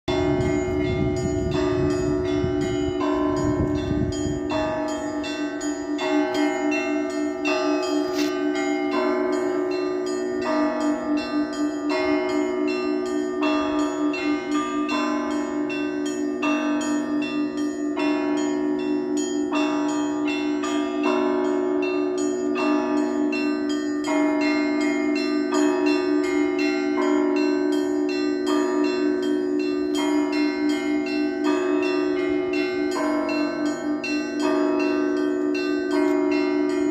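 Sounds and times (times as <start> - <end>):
church bells ringing: 0.1 - 36.9
low bell pulsing: 0.1 - 36.9.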